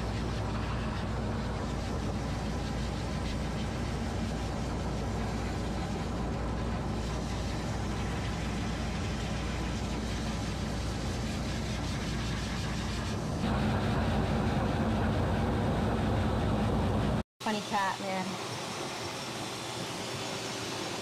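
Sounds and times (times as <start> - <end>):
pet dryer blowing air: 0.0 - 21.0.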